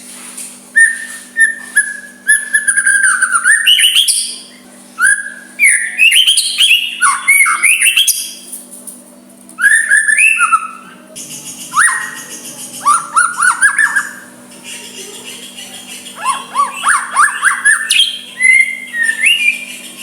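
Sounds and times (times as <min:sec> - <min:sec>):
faint low hum: 0:00.1 - 0:20.0
bird singing varied whistles: 0:00.8 - 0:08.4, 0:09.6 - 0:14.3, 0:16.0 - 0:20.0.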